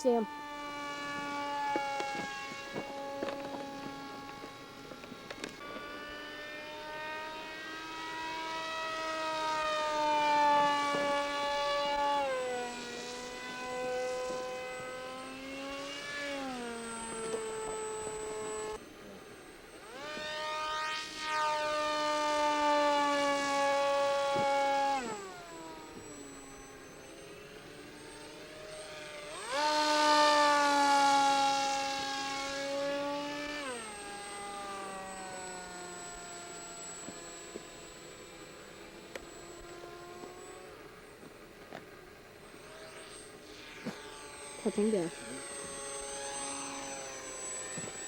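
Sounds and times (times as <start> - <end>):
model jet whining past: 0.0 - 48.0.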